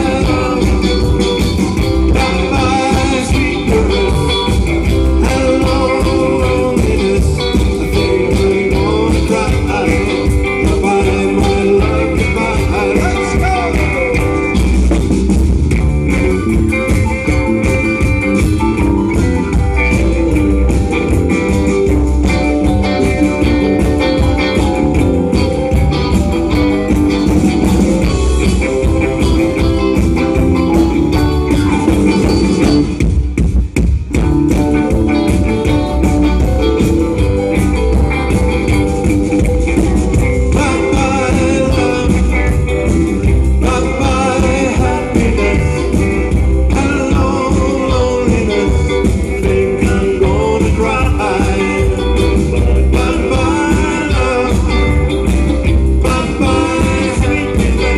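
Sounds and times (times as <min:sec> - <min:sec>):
live band playing through pa: 0:00.0 - 0:57.9.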